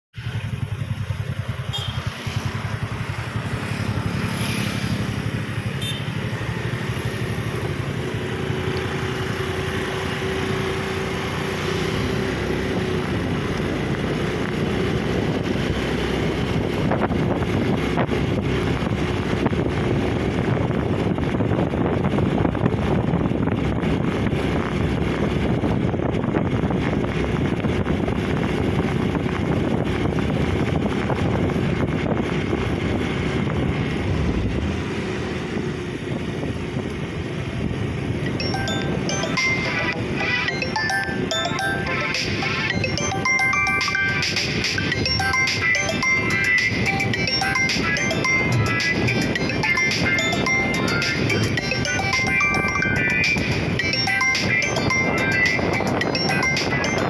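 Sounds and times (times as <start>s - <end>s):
motorcycle engine running: 0.1s - 57.0s
wind rumbling on microphone: 0.2s - 39.1s, 42.7s - 57.0s.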